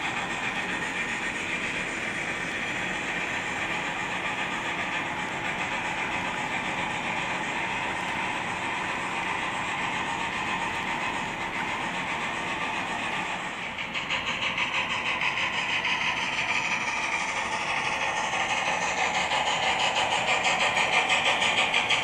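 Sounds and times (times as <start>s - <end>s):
model train wheels rattling on rail: 0.0s - 22.0s.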